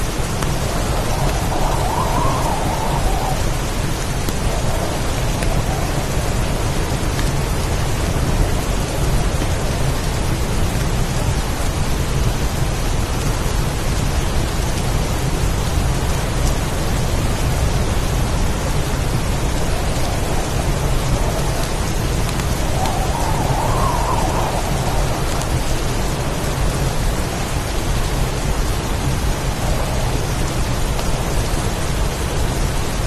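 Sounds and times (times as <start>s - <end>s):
wind howling: 0.0s - 11.3s, 16.2s - 33.0s
deep continuous rumble: 0.0s - 33.0s
heavy rain: 0.0s - 33.0s.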